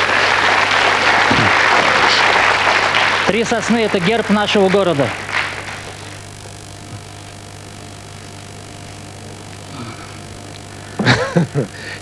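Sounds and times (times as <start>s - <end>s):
steady low hum with hiss: 0.0s - 12.0s.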